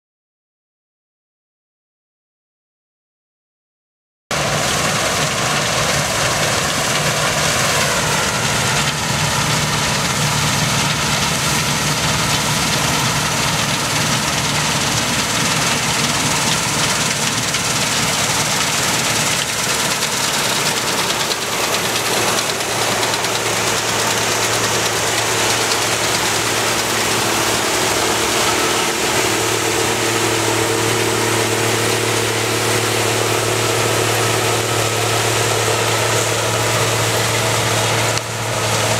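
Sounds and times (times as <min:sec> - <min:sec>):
combine harvester engine and threshing drone: 0:04.3 - 0:38.9.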